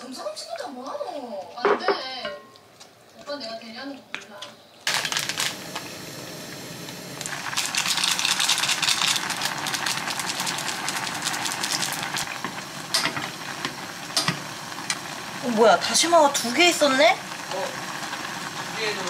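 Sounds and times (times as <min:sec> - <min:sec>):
water boiling in saucepan: 0:03.2 - 0:19.0.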